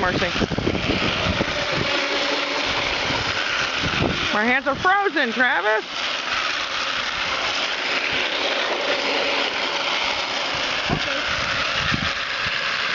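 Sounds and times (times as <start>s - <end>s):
toy truck motor whining: 0.0s - 12.9s.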